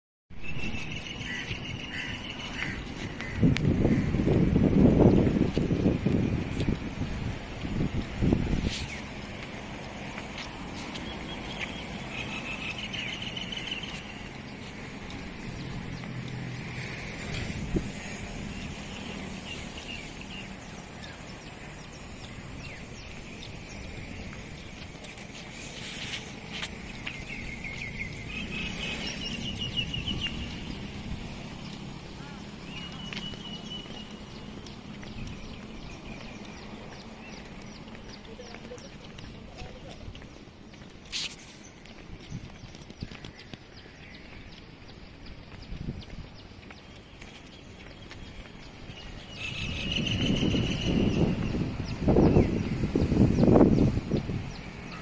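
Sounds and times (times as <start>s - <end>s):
bird chirping: 0.3s - 3.0s, 10.5s - 55.0s
low outdoor background noise: 0.3s - 55.0s
footsteps on concrete: 0.8s - 55.0s.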